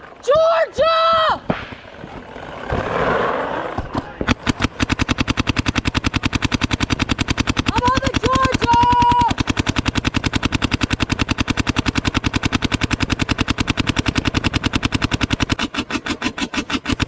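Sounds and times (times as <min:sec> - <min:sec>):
paintball marker rapid firing: 0:01.5 - 0:17.0.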